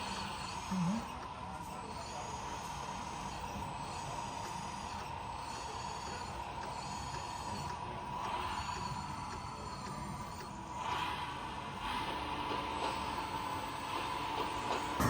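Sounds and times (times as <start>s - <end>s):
model truck mechanical whine: 0.0s - 15.0s.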